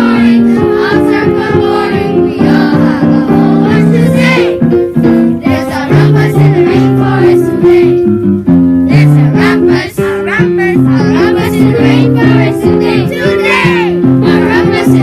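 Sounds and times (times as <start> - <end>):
singing voices: 0.0 - 4.6, 5.3 - 8.1, 8.9 - 15.0
upbeat song with keyboard: 0.0 - 15.0.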